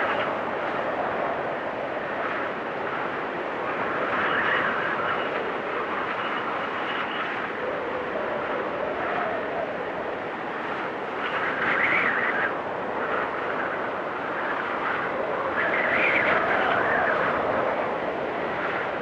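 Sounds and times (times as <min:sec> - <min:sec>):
whistling wind gusts: 0:00.0 - 0:19.0.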